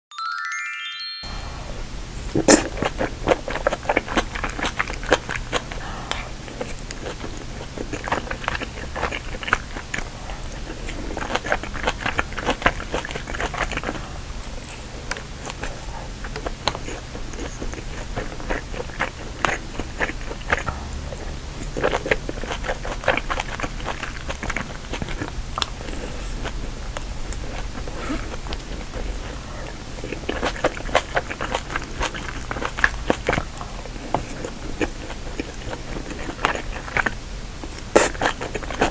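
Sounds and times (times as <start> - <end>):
chewing and biting food: 1.9 - 38.9
wet crunches: 2.2 - 20.7, 21.3 - 38.9.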